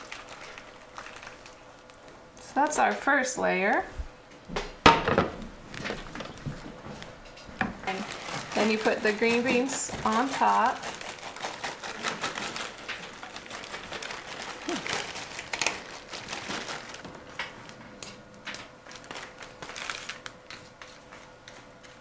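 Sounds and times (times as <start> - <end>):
plastic bag crinkling: 0.0 - 3.0, 5.5 - 7.2, 7.8 - 21.3
beans clicking and crackling: 0.0 - 4.5, 5.6 - 22.0.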